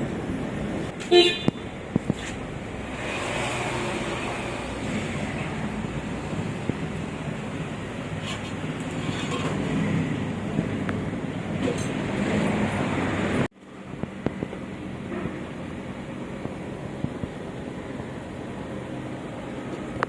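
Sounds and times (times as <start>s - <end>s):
vehicle road noise rumble: 0.0s - 20.0s.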